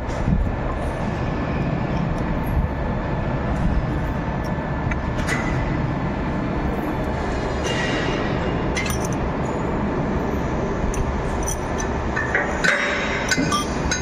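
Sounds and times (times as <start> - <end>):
rumbling machinery: 0.0 - 14.0.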